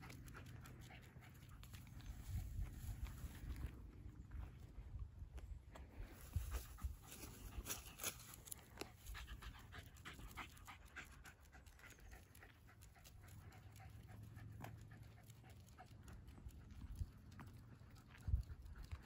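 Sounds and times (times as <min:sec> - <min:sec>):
dog panting: 0:00.0 - 0:03.7, 0:06.2 - 0:19.0.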